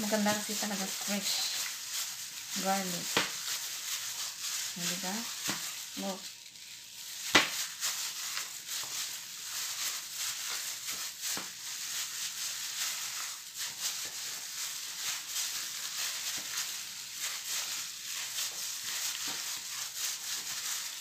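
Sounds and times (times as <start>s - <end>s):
plastic glove crinkling: 0.0s - 21.0s.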